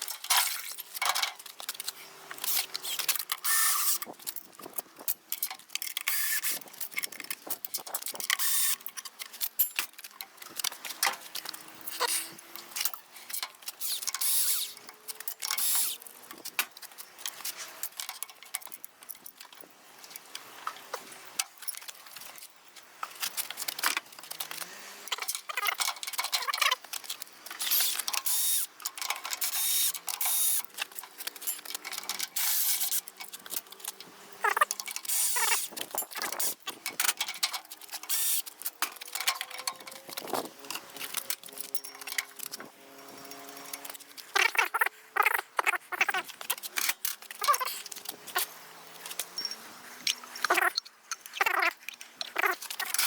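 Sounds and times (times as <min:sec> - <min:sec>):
metal tools clicking and clattering: 0:00.0 - 0:53.0.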